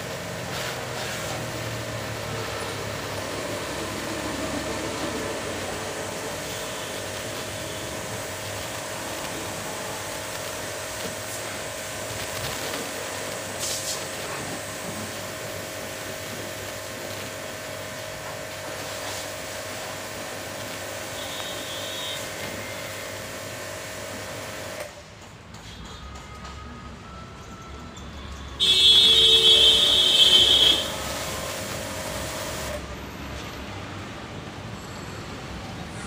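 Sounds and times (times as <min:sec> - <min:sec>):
water jet hissing: 0:00.0 - 0:24.9, 0:28.7 - 0:33.0
pressure washer motor hum: 0:00.0 - 0:25.0, 0:28.6 - 0:33.0.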